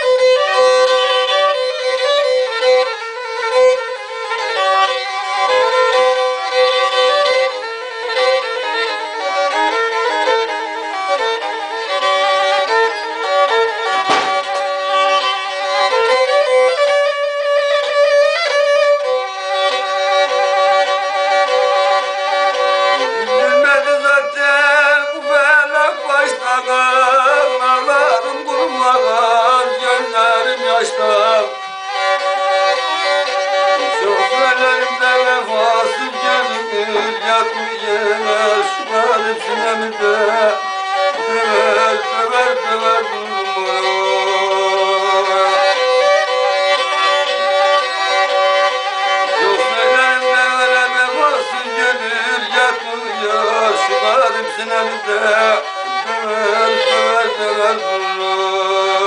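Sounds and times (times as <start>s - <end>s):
bowed fiddle folk melody with drone: 0.0s - 59.0s.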